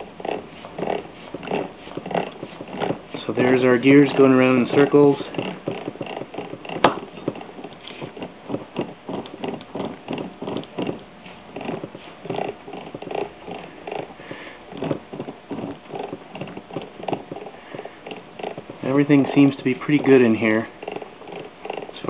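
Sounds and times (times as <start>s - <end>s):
gear wheel ticking: 0.0s - 22.0s.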